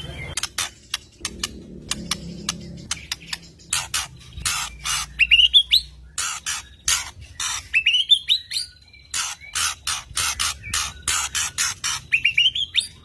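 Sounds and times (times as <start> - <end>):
bird singing chattering notes: 0.0 - 13.0.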